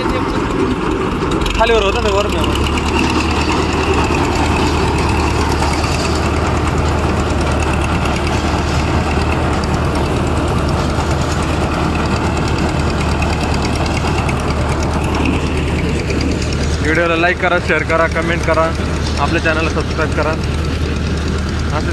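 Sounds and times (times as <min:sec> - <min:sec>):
machinery clatter: 0:00.0 - 0:21.9
tractor engine hum: 0:00.0 - 0:21.9.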